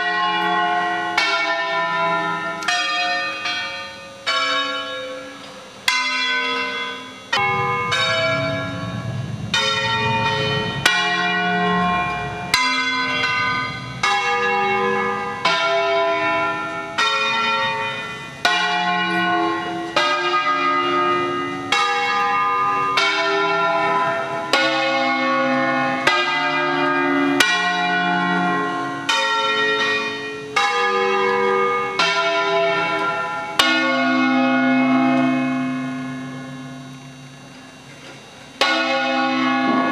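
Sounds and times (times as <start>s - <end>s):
church bells tolling: 0.0s - 39.9s.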